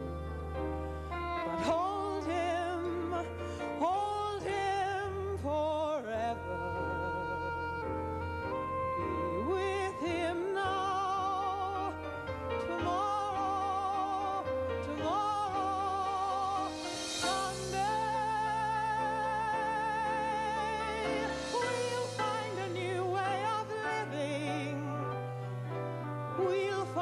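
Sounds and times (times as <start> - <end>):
woman singing a slow ballad: 0.0 - 25.5, 26.3 - 27.0.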